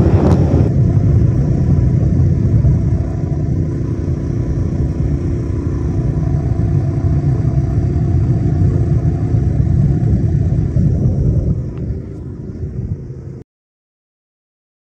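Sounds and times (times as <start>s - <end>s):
boat motor running at speed: 0.0s - 13.4s.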